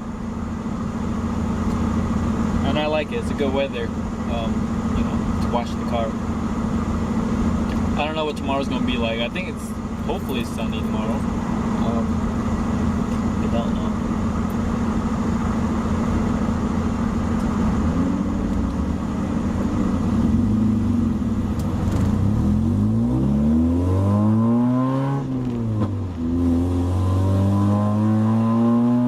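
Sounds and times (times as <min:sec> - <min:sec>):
car engine revving: 0:00.6 - 0:29.0.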